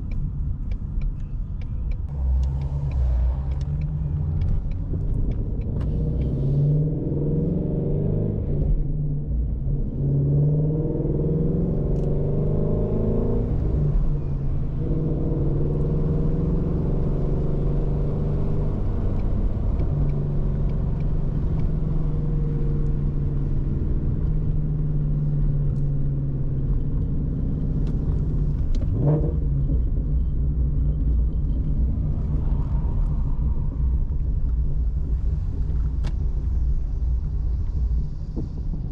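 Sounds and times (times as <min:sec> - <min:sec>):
car engine driving: 0:00.0 - 0:38.9
low road rumble: 0:00.0 - 0:38.9.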